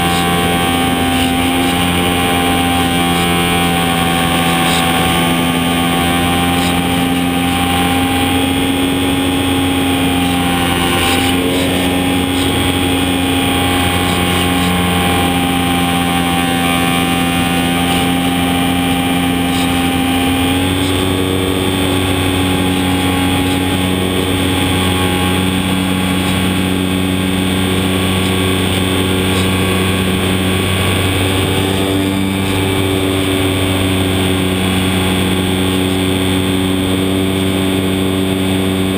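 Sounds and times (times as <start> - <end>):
rushing air: 0.0 - 38.3
model airplane motor whine: 0.0 - 38.9.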